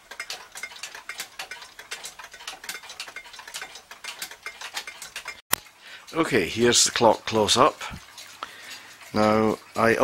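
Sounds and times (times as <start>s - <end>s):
wall clock ticking: 0.0s - 10.0s.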